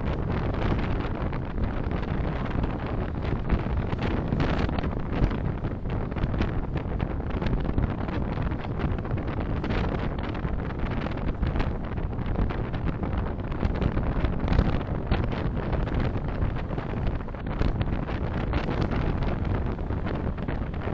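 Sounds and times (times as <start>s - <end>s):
car road and wind noise: 0.0s - 20.9s.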